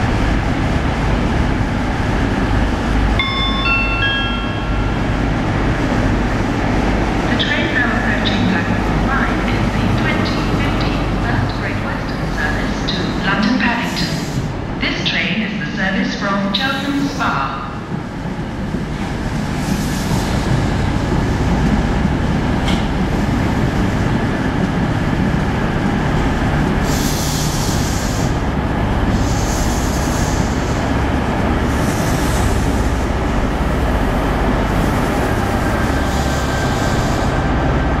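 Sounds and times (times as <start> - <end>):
passenger train rumbling: 0.0 - 38.0.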